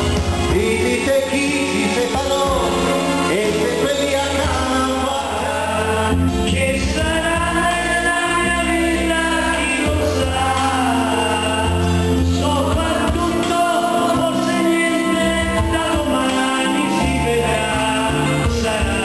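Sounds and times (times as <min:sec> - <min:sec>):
backing track with bass line: 0:00.0 - 0:19.0
man singing into a microphone: 0:00.0 - 0:19.0.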